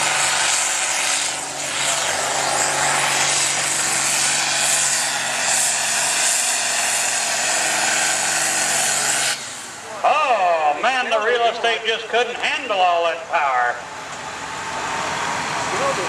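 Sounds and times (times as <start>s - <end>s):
tractor engine at full throttle: 0.0s - 16.0s.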